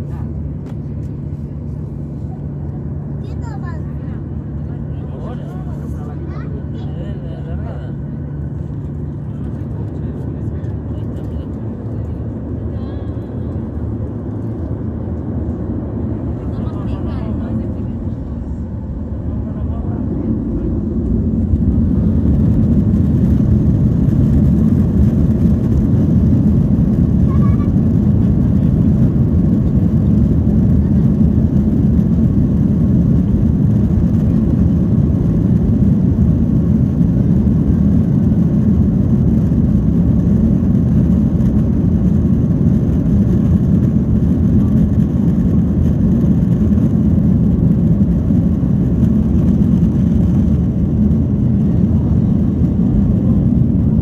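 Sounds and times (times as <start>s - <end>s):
faint high engine whine: 0.0s - 54.0s
jet engine low rumble: 0.0s - 54.0s.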